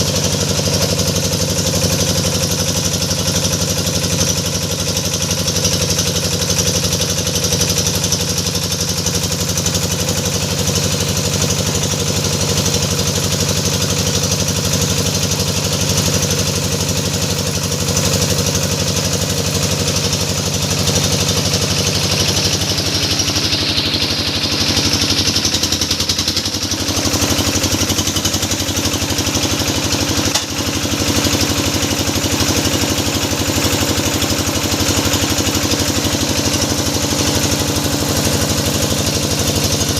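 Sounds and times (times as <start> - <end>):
drilling machine engine running: 0.0 - 39.9.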